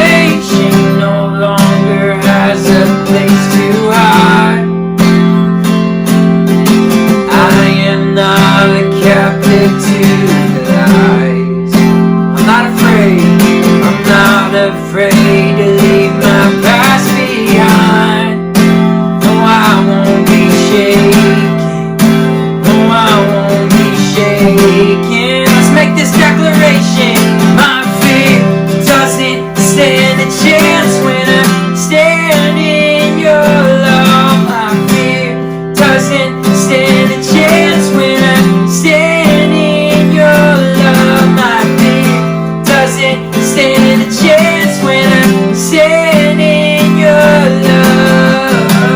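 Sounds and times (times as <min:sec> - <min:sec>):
person singing: 0:00.0 - 0:04.8, 0:07.0 - 0:48.9
strummed acoustic guitar: 0:00.0 - 0:48.9.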